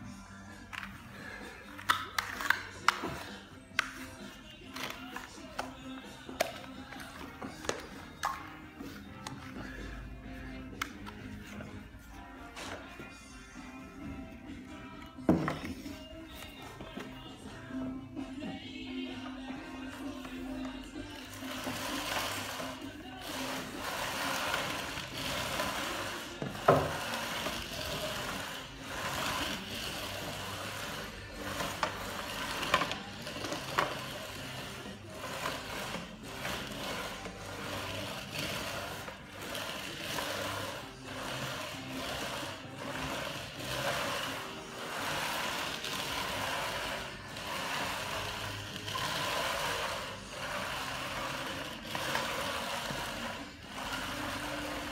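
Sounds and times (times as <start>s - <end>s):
trowel scraping wet floor compound: 0.6s - 54.9s.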